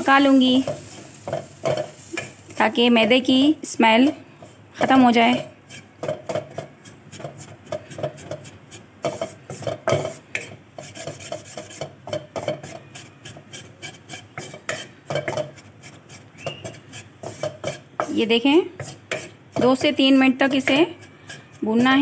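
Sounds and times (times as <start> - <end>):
wooden spatula scraping a metal pan: 0.0 - 22.0.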